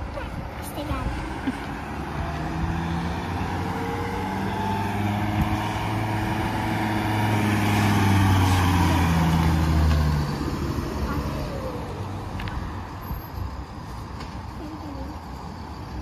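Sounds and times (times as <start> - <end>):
bus engine hum: 0.0 - 16.0.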